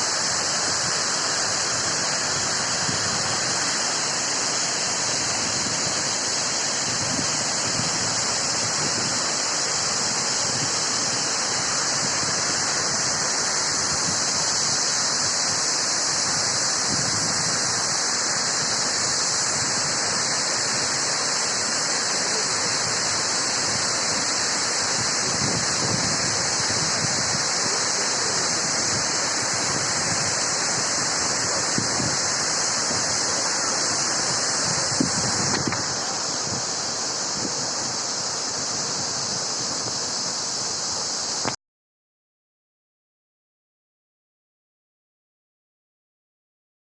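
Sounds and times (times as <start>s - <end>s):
waterfall rushing: 0.0s - 41.6s.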